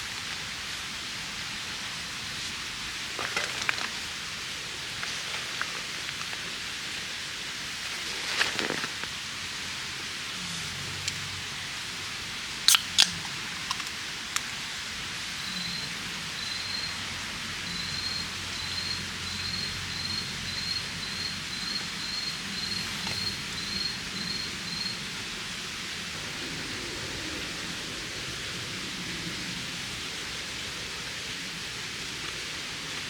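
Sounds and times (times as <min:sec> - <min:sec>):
steady outdoor hiss: 0:00.0 - 0:33.0.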